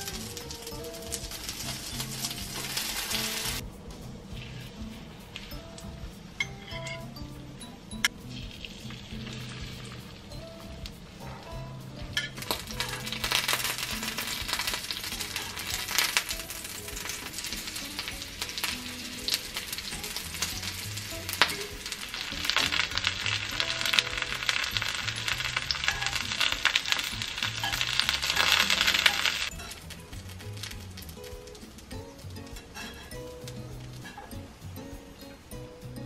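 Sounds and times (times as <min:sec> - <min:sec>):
food sizzling and crackling in oil: 0:00.0 - 0:03.6, 0:08.1 - 0:35.7.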